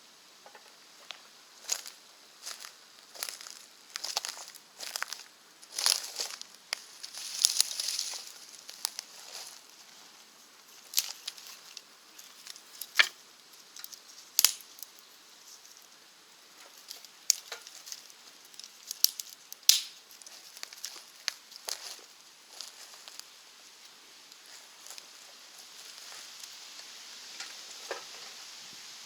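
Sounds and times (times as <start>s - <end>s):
faint hiss: 0.0s - 29.0s
wood fire crackling and popping: 0.4s - 9.8s, 10.6s - 15.6s, 16.3s - 28.2s.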